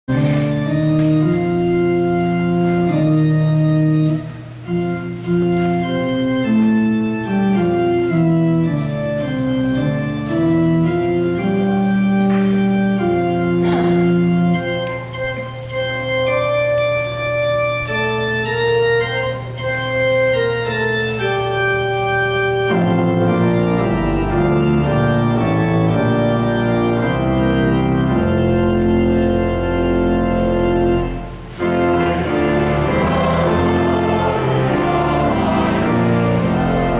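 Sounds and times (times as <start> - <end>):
church organ chords: 0.1 - 36.9.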